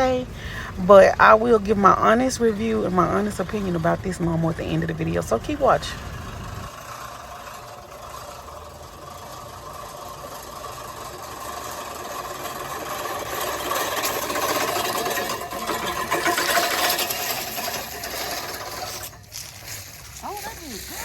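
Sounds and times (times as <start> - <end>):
reel lawn mower cutting grass: 0.8 - 21.0.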